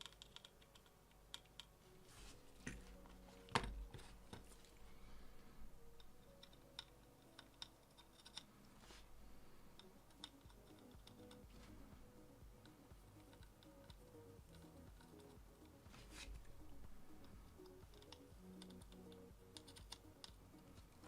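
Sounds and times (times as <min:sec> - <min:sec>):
faint background music: 0:00.0 - 0:21.0.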